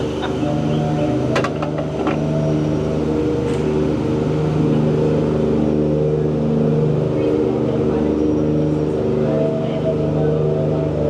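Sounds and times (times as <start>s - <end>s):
boat motor humming: 0.0s - 10.9s.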